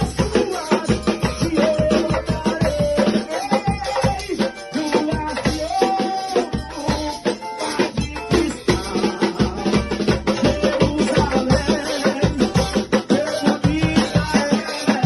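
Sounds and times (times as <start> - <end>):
band playing worship music: 0.0 - 15.0
fast drum beat: 0.0 - 15.0
rattling hand percussion: 0.0 - 15.0.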